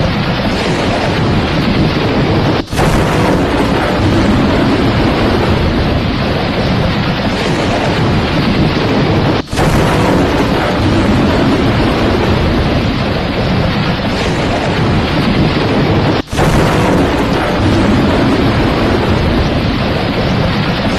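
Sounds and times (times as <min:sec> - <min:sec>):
loud steady rushing noise: 0:00.0 - 0:20.9.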